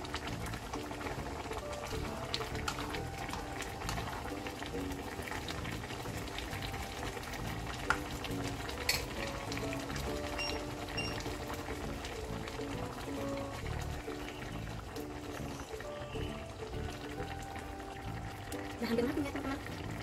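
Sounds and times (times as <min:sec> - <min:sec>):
background music: 0:00.0 - 0:20.0
stew bubbling in a wok: 0:00.0 - 0:20.0.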